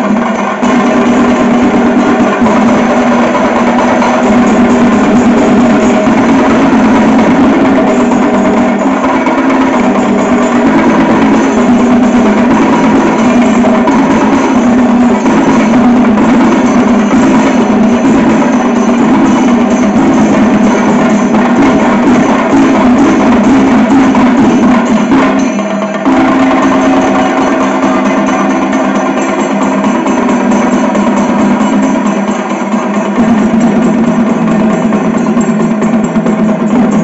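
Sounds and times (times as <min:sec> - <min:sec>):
drums beaten in dense rhythm: 0:00.0 - 0:37.0.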